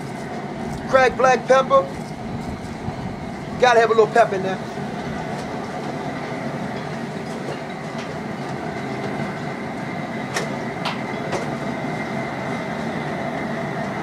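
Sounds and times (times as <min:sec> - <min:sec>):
faint constant hum: 0:00.0 - 0:14.0
gas burner rumbling: 0:00.0 - 0:14.0.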